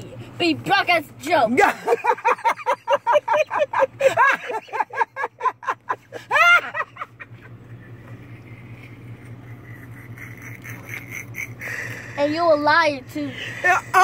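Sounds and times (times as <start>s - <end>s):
vehicle idling hum: 0.0s - 14.0s.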